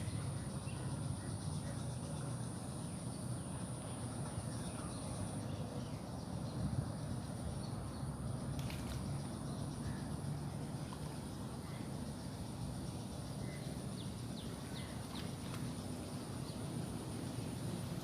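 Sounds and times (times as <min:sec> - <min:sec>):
small birds chirping: 0:00.0 - 0:17.8
high insect-like whine: 0:00.0 - 0:18.0
low rumble of wind or traffic: 0:00.0 - 0:18.0.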